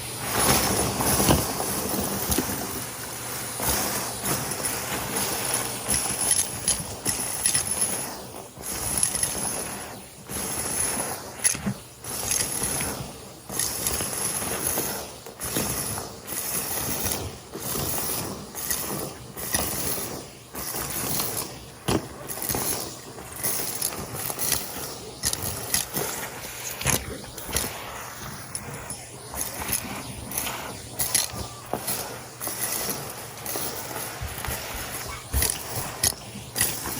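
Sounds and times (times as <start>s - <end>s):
debris rattling through hose: 0.0s - 36.9s
vacuum cleaner sucking up debris: 0.0s - 36.9s.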